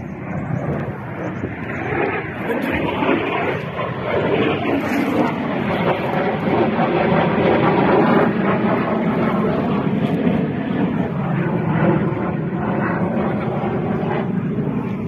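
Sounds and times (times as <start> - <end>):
military aircraft engine: 0.0 - 15.0.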